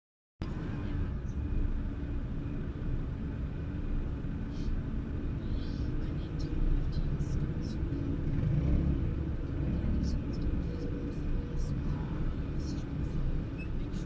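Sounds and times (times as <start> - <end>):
idling engines and road traffic: 0.4 - 14.0.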